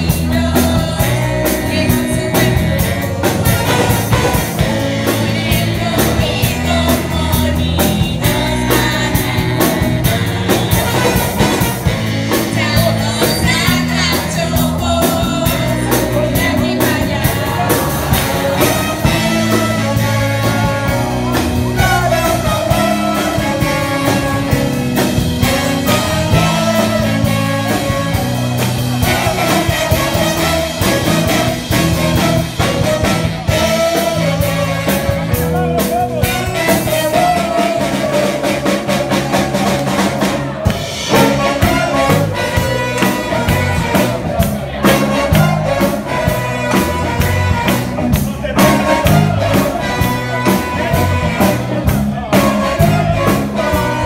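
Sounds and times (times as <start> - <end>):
live band playing: 0.0 - 54.0.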